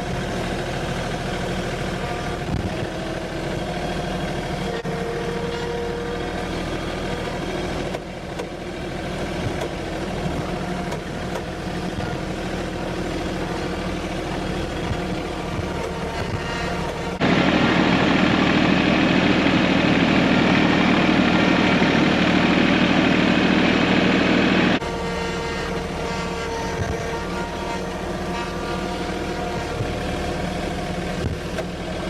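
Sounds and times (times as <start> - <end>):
louder rough running noise: 0.0 - 32.0
tractor diesel engine running: 0.0 - 32.0.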